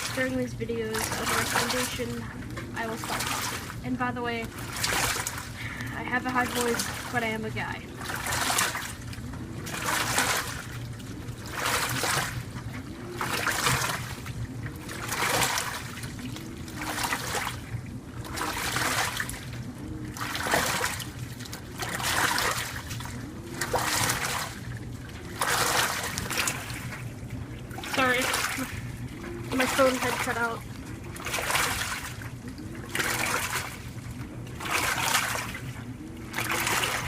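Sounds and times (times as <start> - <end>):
steady low hum: 0.0 - 37.0
washing machine motor whirring: 0.0 - 37.0
water swishing and splashing: 0.0 - 37.0.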